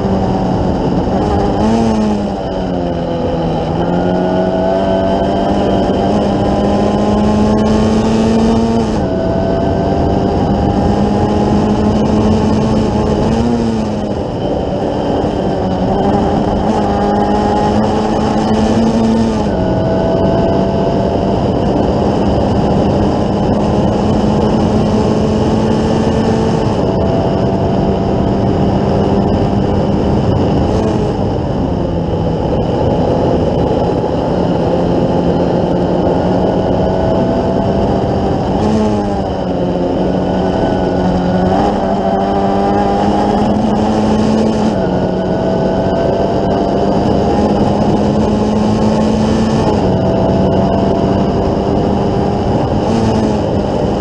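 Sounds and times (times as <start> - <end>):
race car engine at full throttle: 0.0 - 54.0
wind and road noise: 0.0 - 54.0.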